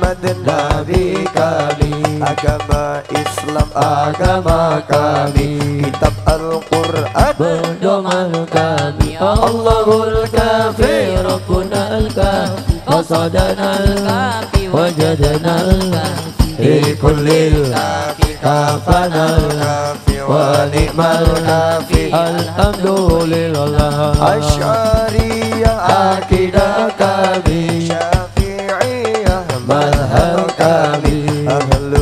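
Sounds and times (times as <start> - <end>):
devotional singing: 0.0 - 32.0
frame drums steady beat: 0.0 - 32.0.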